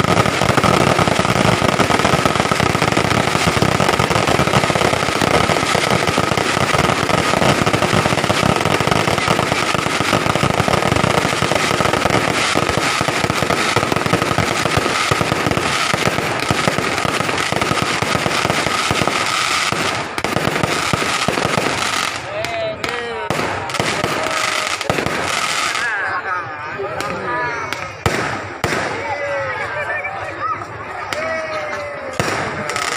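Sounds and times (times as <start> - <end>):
firecrackers crackling: 0.0 - 32.9.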